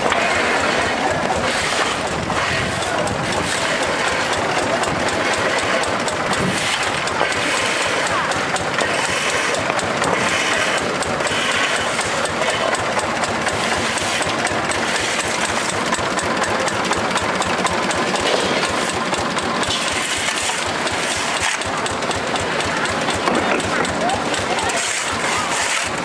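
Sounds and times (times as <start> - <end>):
excavator engine clattering: 0.0 - 26.0.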